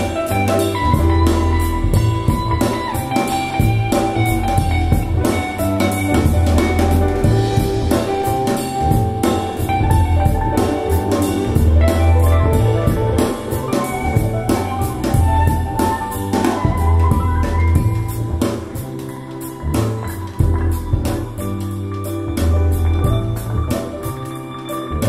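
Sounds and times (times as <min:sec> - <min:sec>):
instrumental music with drum beat: 0:00.0 - 0:25.0.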